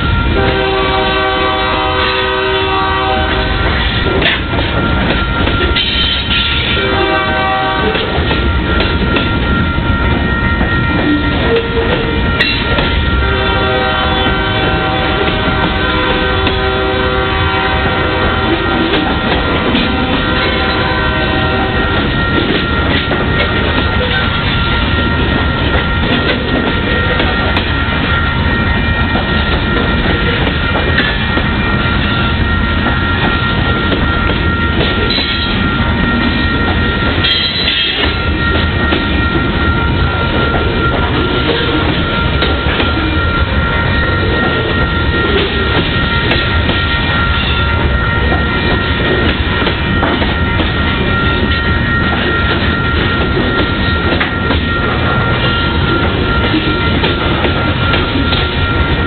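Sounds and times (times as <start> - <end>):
crossing bell ringing: 0.0 - 59.0
train wheels clattering over rails: 0.0 - 59.0.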